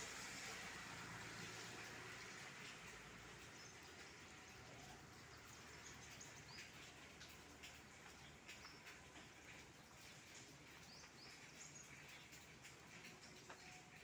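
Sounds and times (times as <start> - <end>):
raindrops dripping: 0.0 - 14.0.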